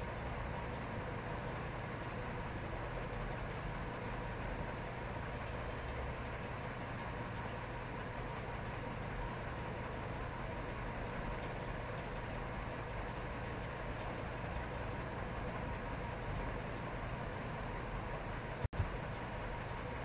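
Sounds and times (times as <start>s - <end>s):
steady hum and hiss: 0.0s - 20.0s.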